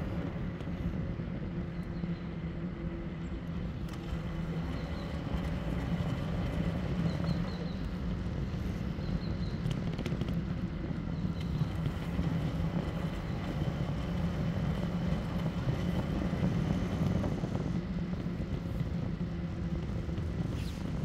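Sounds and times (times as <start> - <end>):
road rumble: 0.0 - 21.0
wind rushing over microphone: 3.6 - 21.0.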